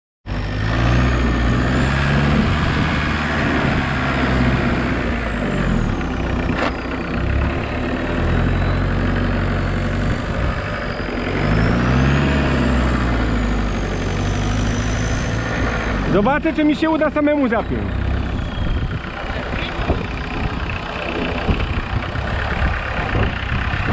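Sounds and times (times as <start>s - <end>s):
tractor engine running: 0.3s - 23.9s.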